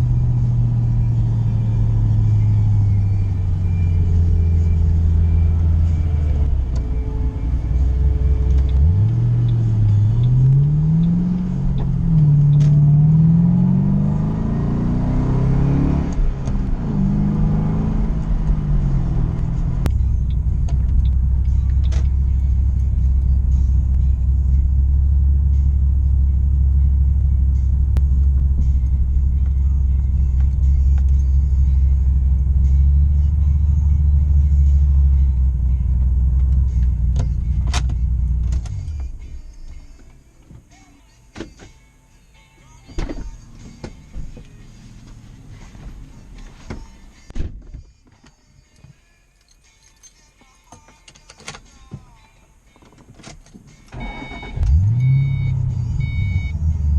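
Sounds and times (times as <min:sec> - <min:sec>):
car engine accelerating through gears: 0:00.0 - 0:39.3, 0:43.2 - 0:46.6, 0:53.9 - 0:56.9.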